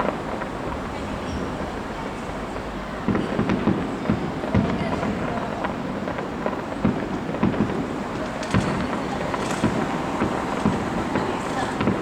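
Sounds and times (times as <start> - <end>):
fireworks booms and bangs: 0.0 - 12.0
fireworks crackling: 0.0 - 12.0.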